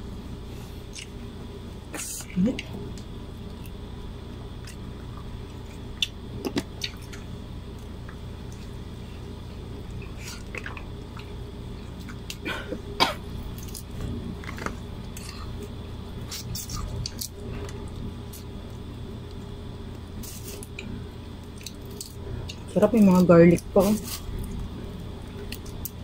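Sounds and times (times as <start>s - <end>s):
steady low room hum: 0.0s - 26.0s.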